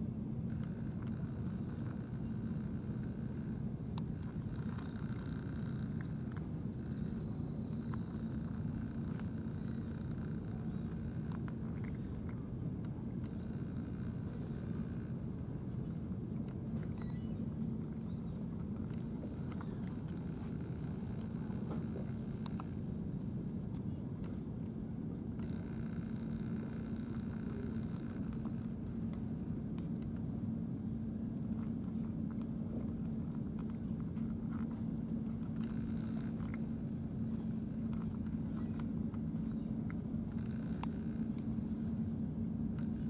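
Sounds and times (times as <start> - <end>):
low engine hum: 0.0 - 43.0
faint clicks: 0.5 - 15.1, 15.9 - 22.8, 25.4 - 30.2, 31.4 - 41.6.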